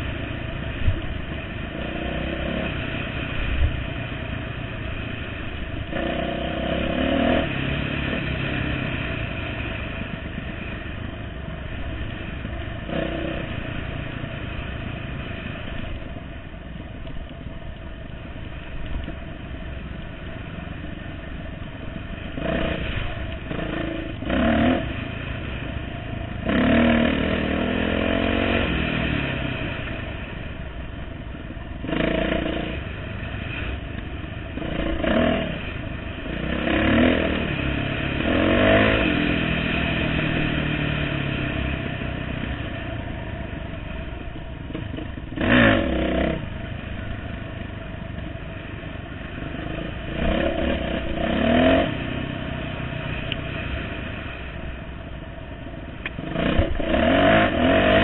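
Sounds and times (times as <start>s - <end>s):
dirt bike engine revving: 0.0s - 15.8s, 21.8s - 30.5s, 31.8s - 33.8s, 34.5s - 44.1s, 44.7s - 54.7s, 56.0s - 58.0s.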